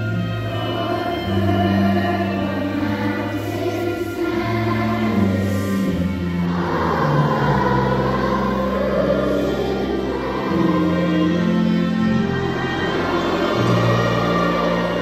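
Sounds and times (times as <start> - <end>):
children's choir singing: 0.0 - 15.0
instrumental accompaniment: 0.0 - 15.0.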